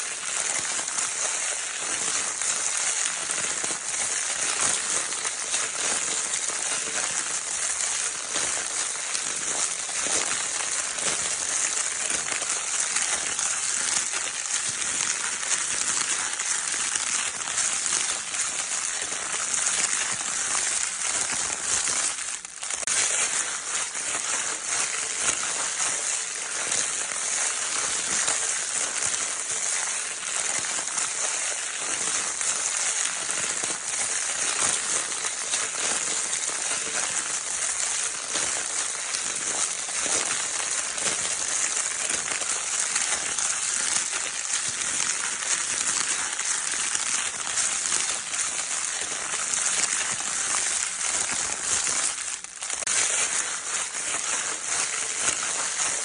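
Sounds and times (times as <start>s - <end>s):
crinkle paper rustling: 0.0s - 56.0s.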